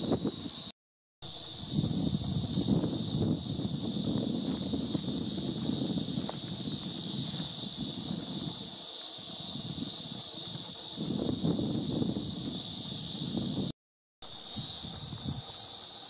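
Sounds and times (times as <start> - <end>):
insects chorus shrill hiss: 0.0 - 16.0.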